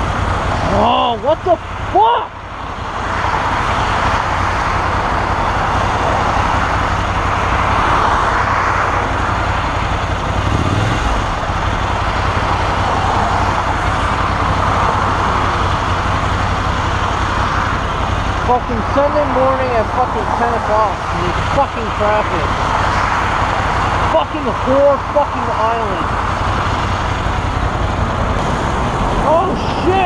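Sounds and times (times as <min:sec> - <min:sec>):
motorcycle engine rumbling: 0:00.0 - 0:30.0
wind and road noise: 0:00.0 - 0:30.0.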